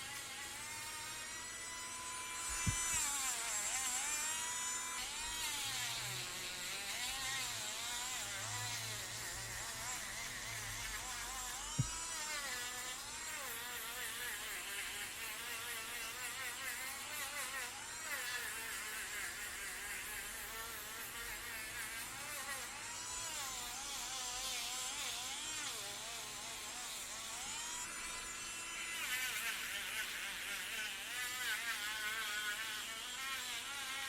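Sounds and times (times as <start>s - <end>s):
electric nail drill whining: 0.0s - 34.0s.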